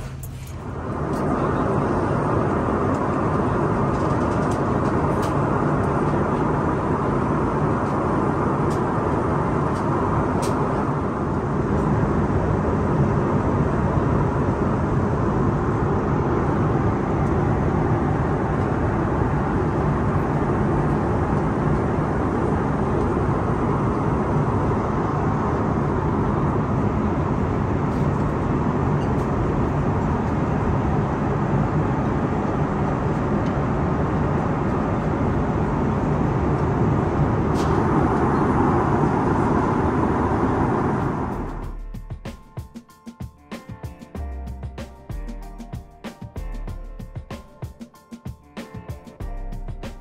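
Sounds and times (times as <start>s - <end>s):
airplane cabin engine rumble: 0.0s - 42.6s.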